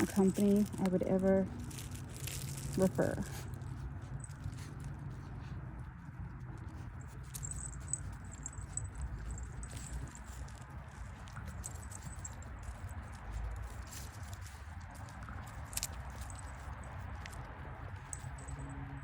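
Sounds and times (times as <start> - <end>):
puppies rustling on grass: 0.0 - 19.0.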